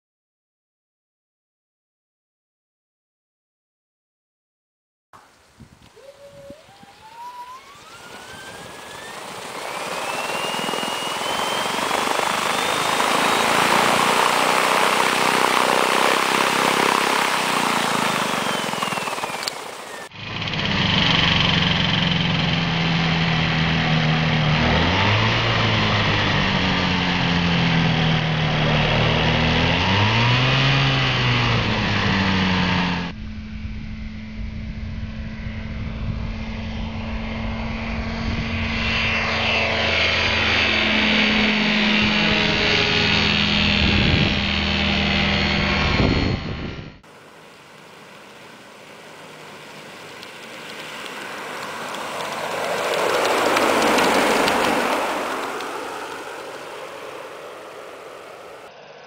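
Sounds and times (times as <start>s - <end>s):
electric motor and propeller whine: 5.2s - 59.0s
petrol engine droning: 5.2s - 59.0s.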